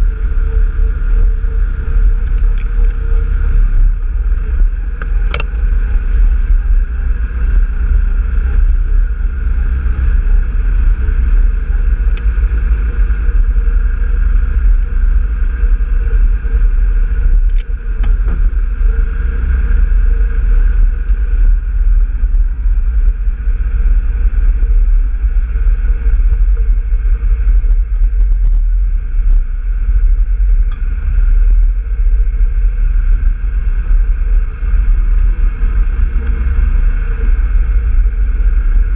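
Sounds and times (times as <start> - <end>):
off-road vehicle engine running: 0.0 - 38.9
wind buffeting microphone: 0.0 - 38.9.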